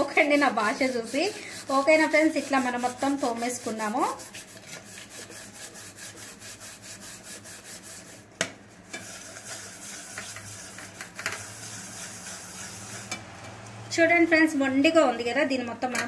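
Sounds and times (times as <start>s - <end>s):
scrub pad scrubbing a pot: 0.0s - 13.2s.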